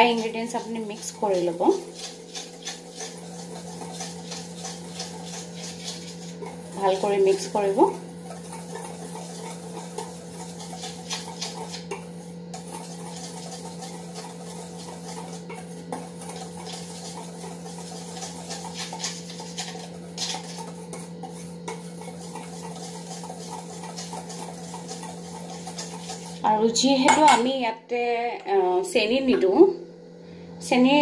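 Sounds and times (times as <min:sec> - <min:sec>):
whisk scraping metal bowl: 0:00.0 - 0:27.5.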